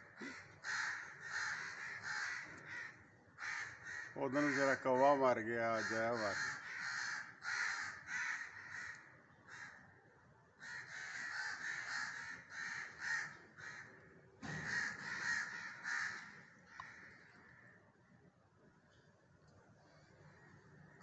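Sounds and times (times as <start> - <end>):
crows cawing: 0.0 - 10.0, 10.6 - 18.0.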